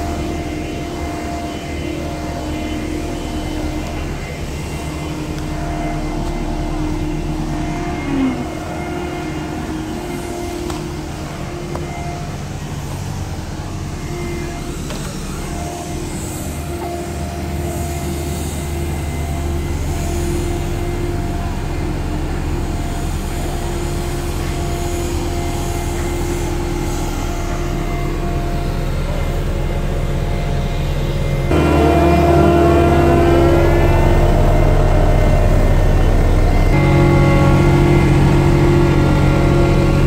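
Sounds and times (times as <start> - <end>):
constant whine: 0.0 - 40.0
heavy machinery engine droning: 0.0 - 40.0.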